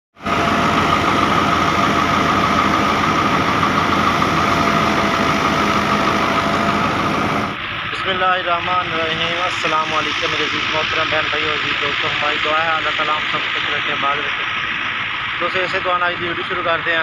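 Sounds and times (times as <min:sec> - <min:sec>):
thresher running: 0:00.1 - 0:17.0
tractor engine: 0:00.1 - 0:17.0.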